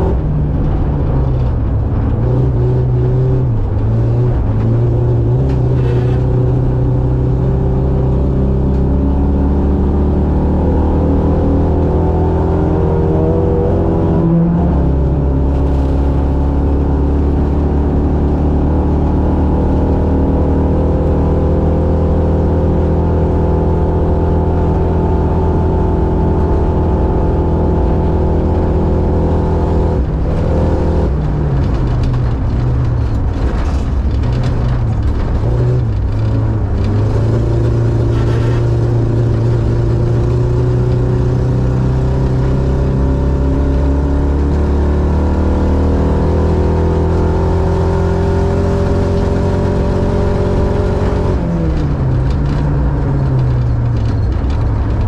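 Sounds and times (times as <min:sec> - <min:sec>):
racing buggy engine running: 0:00.0 - 0:55.0.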